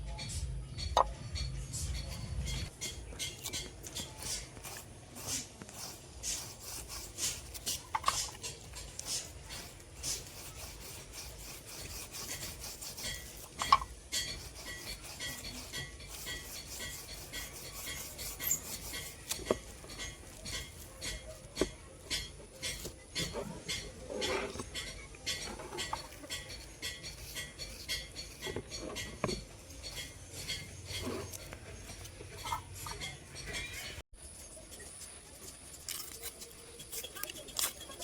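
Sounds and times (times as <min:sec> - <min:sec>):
knife blade being sharpened: 0:01.8 - 0:34.0.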